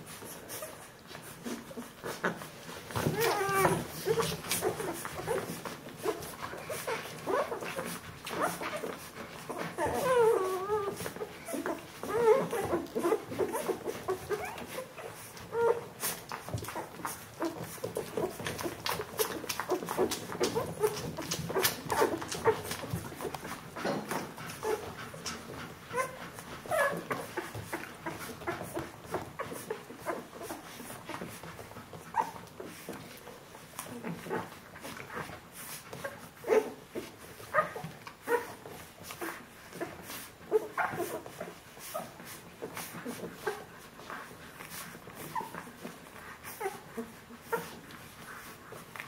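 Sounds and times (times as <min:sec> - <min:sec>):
puppies squeaking and grunting: 0:00.0 - 0:49.0
puppies suckling: 0:00.0 - 0:49.0.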